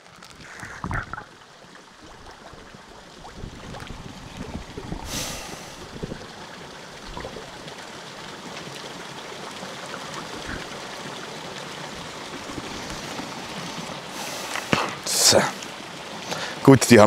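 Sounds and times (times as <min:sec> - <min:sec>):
muffled underwater rushing water: 0:00.0 - 0:17.0.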